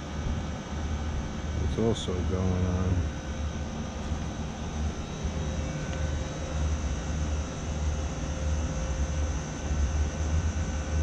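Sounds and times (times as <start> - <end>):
air conditioner units humming: 0.0 - 11.0.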